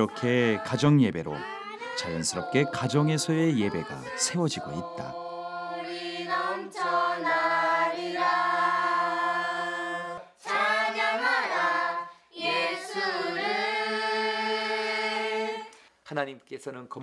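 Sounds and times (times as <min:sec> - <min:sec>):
family singing a hymn unaccompanied: 0:00.0 - 0:15.7.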